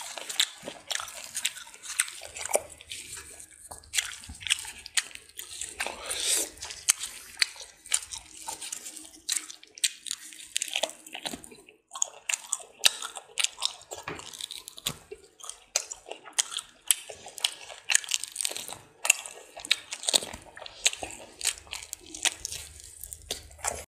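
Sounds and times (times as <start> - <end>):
crunchy chewing: 0.0 - 23.9.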